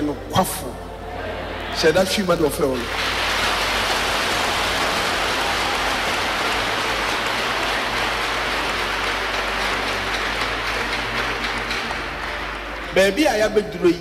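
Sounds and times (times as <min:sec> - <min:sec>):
crowd applauding: 0:02.7 - 0:14.0.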